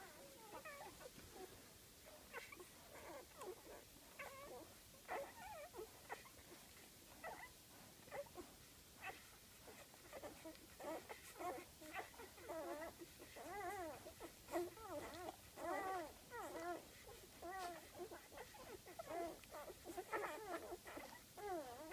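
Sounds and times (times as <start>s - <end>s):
puppies squeaking and whimpering: 0.0s - 1.5s, 2.3s - 21.9s.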